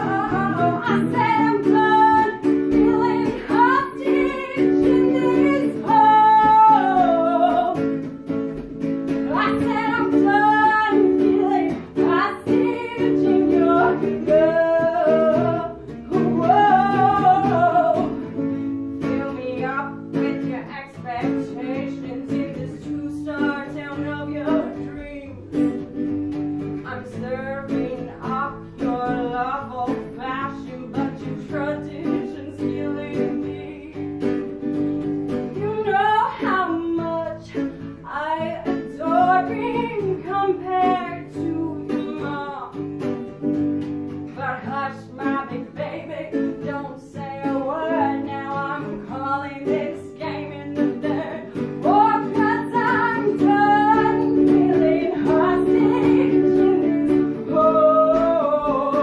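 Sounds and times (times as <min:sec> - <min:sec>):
clean electric guitar: 0:00.0 - 0:59.0
woman singing: 0:00.0 - 0:59.0.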